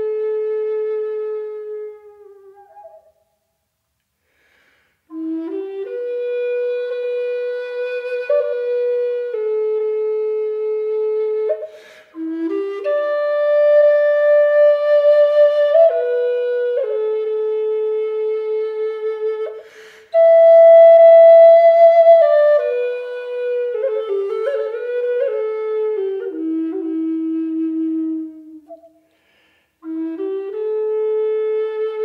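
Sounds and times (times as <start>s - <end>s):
slow solo flute melody: 0.0s - 3.8s, 5.0s - 32.0s.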